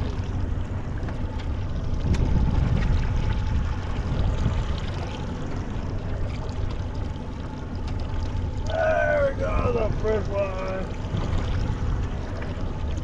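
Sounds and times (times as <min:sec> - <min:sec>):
boat motor rumbling: 0:00.0 - 0:13.0
water sloshing against hull: 0:00.0 - 0:13.0
wind: 0:00.0 - 0:13.0.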